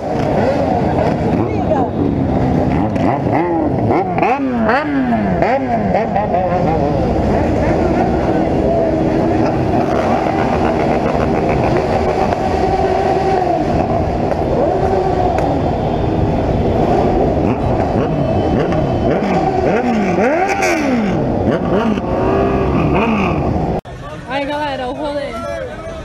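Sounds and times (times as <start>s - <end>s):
motorcycle engines revving: 0.0s - 25.3s.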